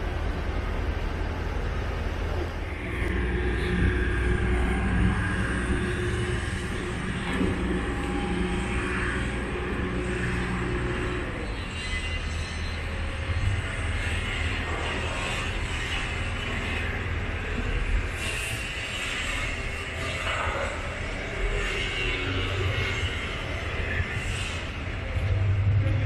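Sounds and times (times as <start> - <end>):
low engine drone: 0.0 - 26.0
outdoor background noise: 0.0 - 26.0.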